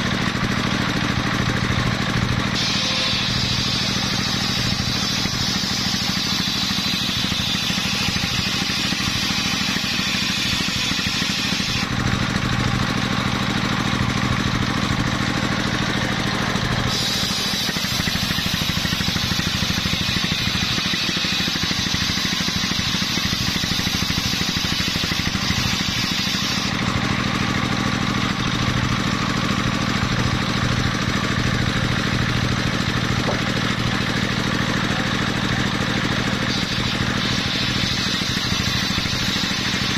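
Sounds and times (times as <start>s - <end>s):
circular saw running: 0.0s - 39.9s
saw blade cutting wood: 0.0s - 39.9s.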